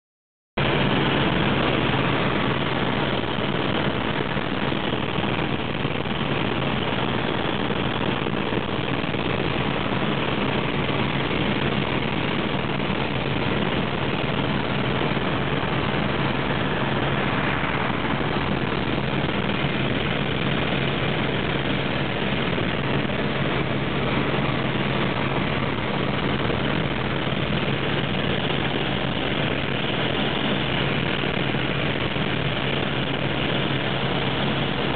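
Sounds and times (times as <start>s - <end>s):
constant low hum: 0.6s - 34.9s
small aircraft engine drone: 0.6s - 34.9s.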